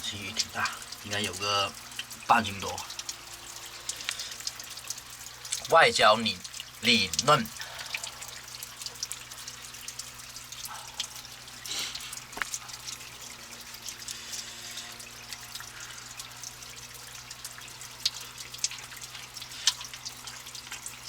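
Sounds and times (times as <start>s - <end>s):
water dripping and trickling: 0.0s - 21.0s.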